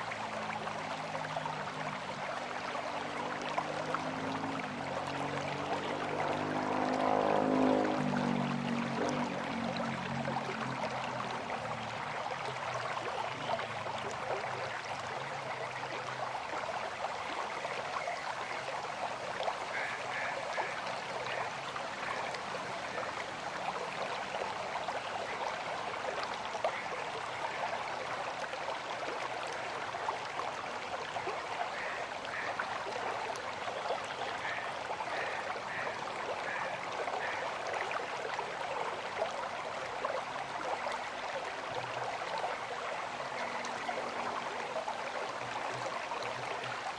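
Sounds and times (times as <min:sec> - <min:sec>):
river water rushing and splashing: 0:00.0 - 0:46.9.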